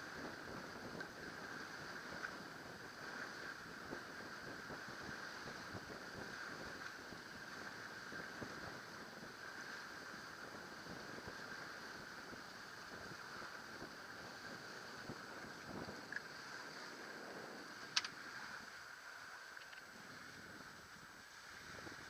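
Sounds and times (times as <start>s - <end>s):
water rushing along boat hull: 0.0s - 22.0s.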